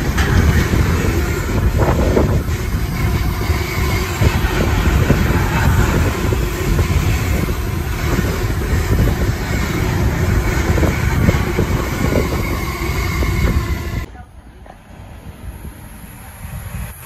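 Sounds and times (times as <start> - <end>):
wheels clattering on rails: 0.0 - 14.1
freight train rumble: 0.0 - 17.0.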